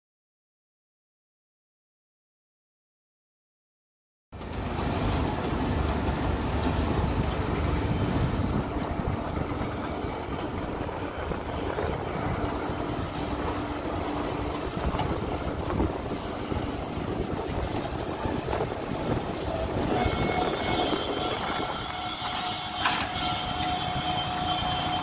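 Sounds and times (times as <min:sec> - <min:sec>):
baling machine rumbling: 0:04.4 - 0:25.0
tractor engine running: 0:04.4 - 0:25.0.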